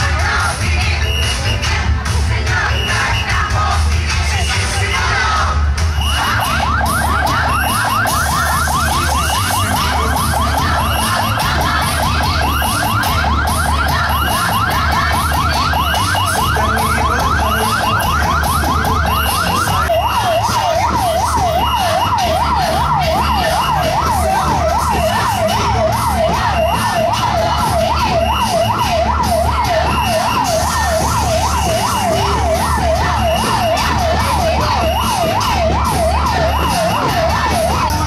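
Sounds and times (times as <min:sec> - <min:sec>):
low thudding beat: 0:00.0 - 0:38.0
electronic siren yelping: 0:05.9 - 0:38.0.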